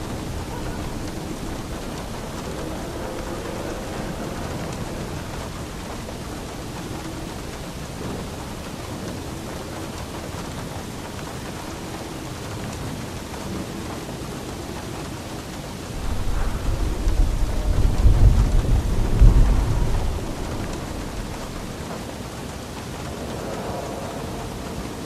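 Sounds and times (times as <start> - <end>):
deep thunder rumble: 0.0 - 14.9, 15.6 - 25.0
rainfall: 0.0 - 25.0.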